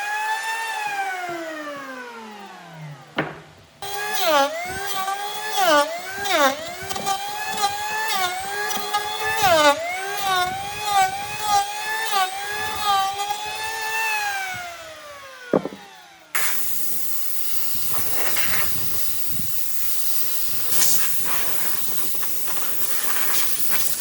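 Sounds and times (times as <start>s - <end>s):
power tool motor whining: 0.0s - 24.0s.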